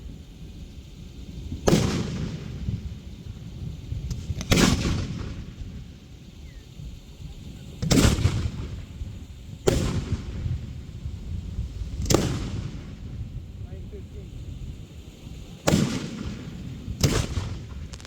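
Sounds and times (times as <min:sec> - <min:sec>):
fireworks booming: 0:01.4 - 0:06.2, 0:06.8 - 0:18.0.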